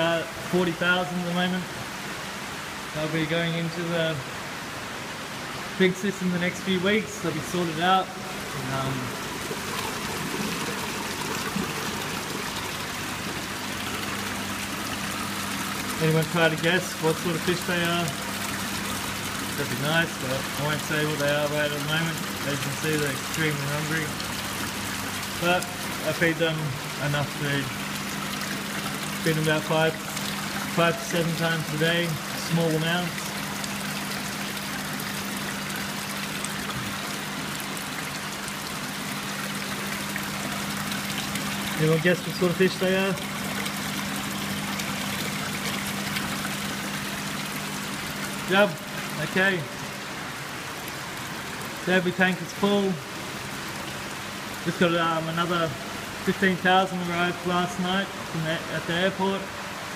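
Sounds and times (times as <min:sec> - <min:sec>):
low pump hum: 0:00.0 - 0:59.9
water rushing and splashing: 0:00.0 - 0:59.9.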